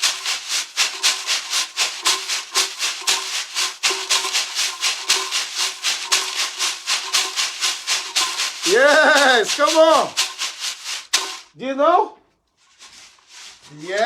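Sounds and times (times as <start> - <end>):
shakers rattling: 0.0 - 11.6, 12.6 - 14.0.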